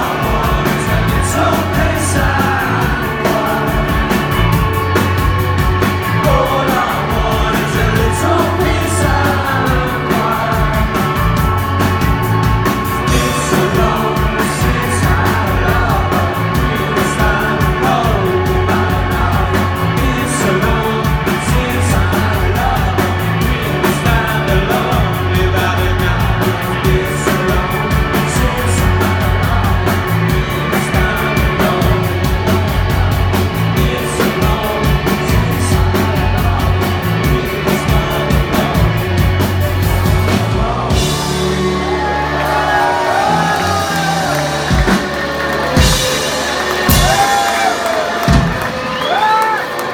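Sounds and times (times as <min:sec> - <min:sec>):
drums with cymbal beat: 0:00.0 - 0:49.6
guitars and bass: 0:00.0 - 0:49.9
person singing: 0:00.0 - 0:49.9.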